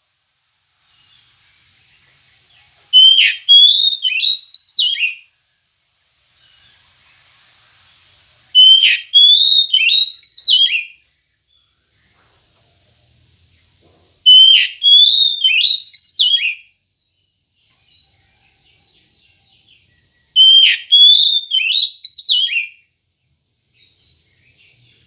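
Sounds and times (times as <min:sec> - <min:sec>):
bird singing whistled notes: 0:00.9 - 0:05.6, 0:06.4 - 0:12.1, 0:14.3 - 0:25.0.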